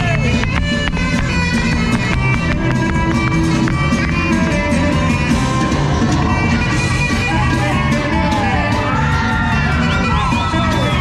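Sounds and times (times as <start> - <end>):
upbeat polka music: 0.0 - 11.0.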